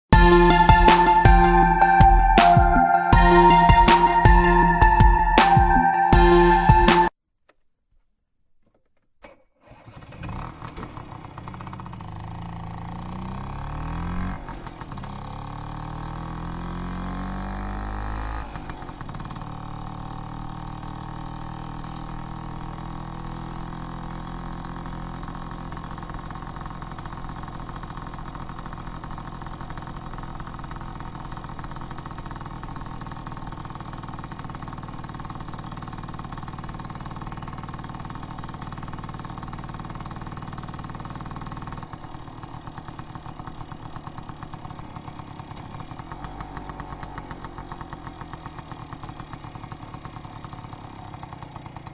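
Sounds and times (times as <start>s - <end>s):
scooter engine revving and idling: 9.7s - 51.9s.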